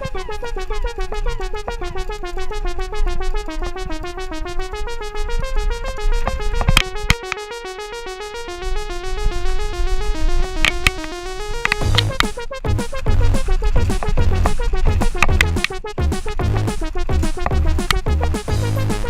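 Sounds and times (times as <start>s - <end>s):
synthesizer arpeggio: 0.0s - 19.0s.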